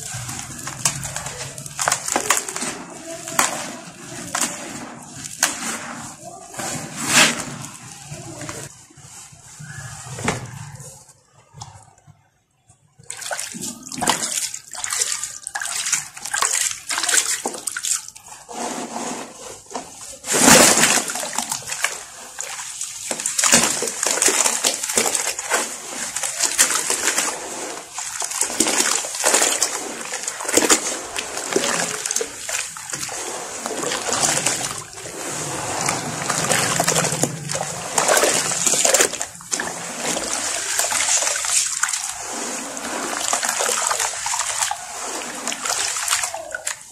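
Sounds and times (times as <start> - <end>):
water splashing in a plastic tub: 0.0 - 8.8, 13.0 - 46.9.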